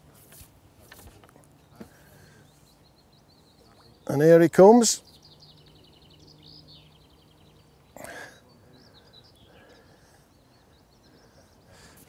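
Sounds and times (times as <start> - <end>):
songbird chirping: 0.8 - 12.0.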